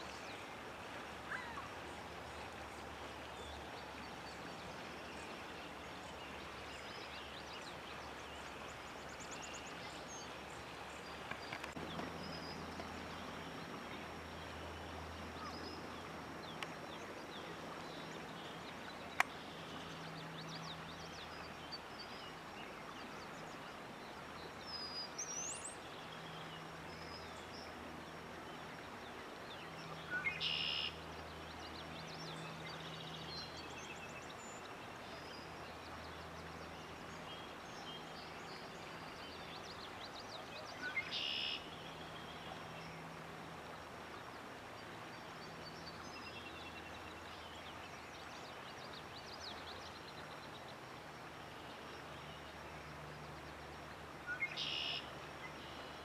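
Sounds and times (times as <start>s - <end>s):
faint steady hiss: 0.0s - 56.0s
songbirds calling: 0.0s - 56.0s.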